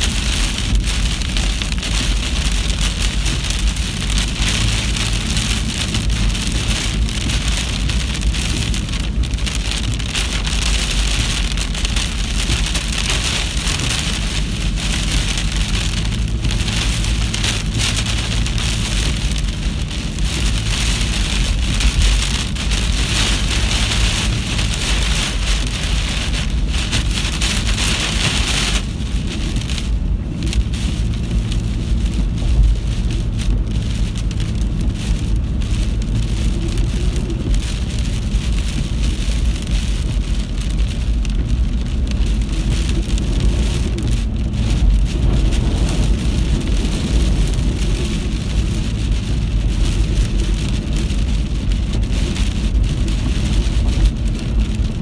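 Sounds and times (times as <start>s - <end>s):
heavy rain hissing: 0.0s - 55.0s
steady low rumble: 0.0s - 55.0s.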